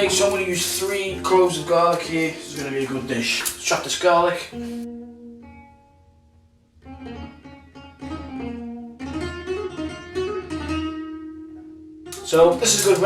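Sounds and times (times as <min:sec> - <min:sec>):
plucked guitar music: 0:00.0 - 0:13.0.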